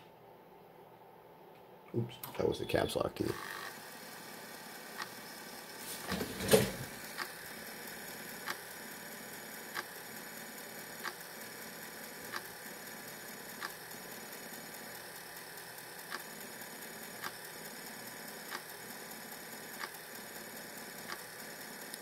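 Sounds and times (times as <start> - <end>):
floppy drive motor hum: 2.0 - 22.0.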